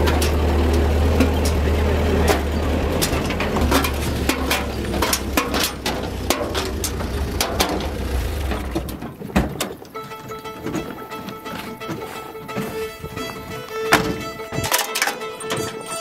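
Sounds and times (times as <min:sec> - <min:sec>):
body and load rattling: 0:00.0 - 0:16.0
van engine rumble: 0:00.0 - 0:16.0.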